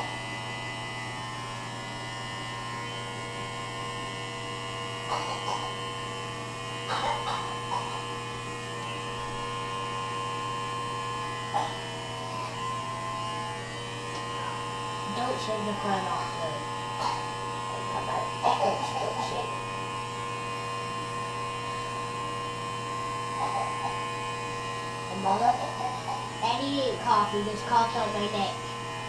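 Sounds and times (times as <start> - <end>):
electric razor humming: 0.0 - 29.0.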